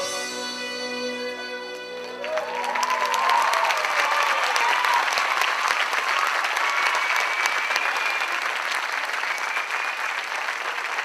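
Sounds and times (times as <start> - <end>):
theatre audience applauding: 1.9 - 11.0.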